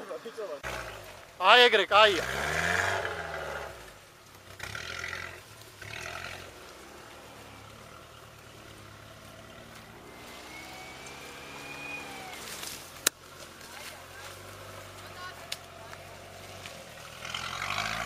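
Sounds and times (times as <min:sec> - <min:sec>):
car engine droning with surges: 0:00.0 - 0:18.0.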